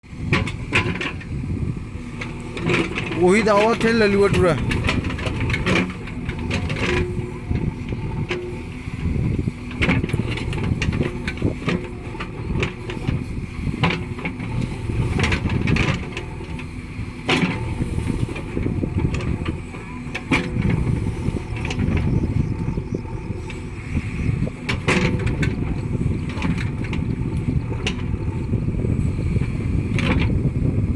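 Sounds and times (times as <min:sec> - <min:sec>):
diesel engine running: 0:00.0 - 0:30.9
machine knocks and clanks: 0:00.2 - 0:01.4, 0:02.0 - 0:30.5.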